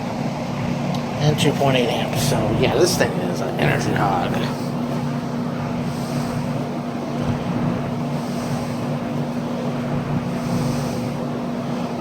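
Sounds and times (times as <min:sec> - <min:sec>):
window fan running: 0:00.0 - 0:12.0.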